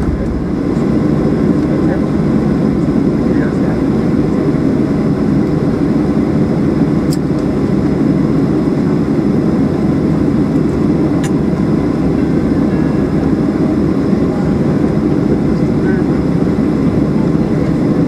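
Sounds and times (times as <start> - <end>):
aircraft cabin noise: 0.0 - 18.0
airplane engines rumbling: 0.0 - 18.0.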